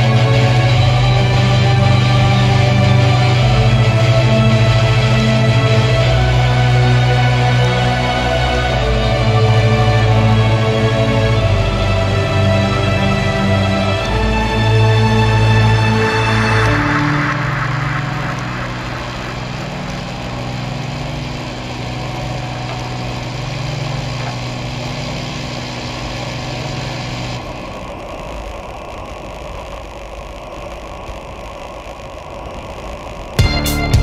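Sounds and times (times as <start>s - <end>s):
wind rushing: 0.0s - 33.4s
steady low hum: 0.0s - 34.0s.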